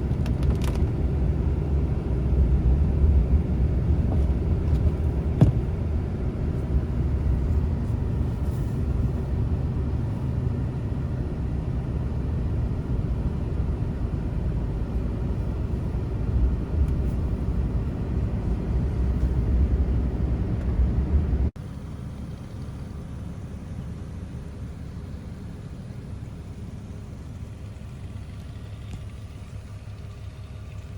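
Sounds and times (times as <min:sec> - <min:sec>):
vehicle rumble: 0:00.0 - 0:30.9.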